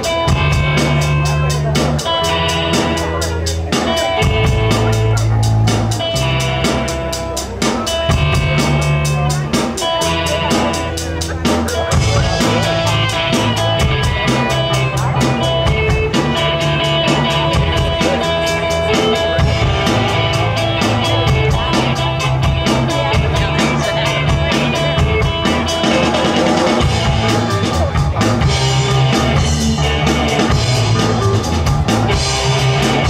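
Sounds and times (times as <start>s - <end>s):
bass notes: 0.0s - 33.0s
drum kit fast beat: 0.0s - 33.0s
electric guitars: 0.0s - 33.0s.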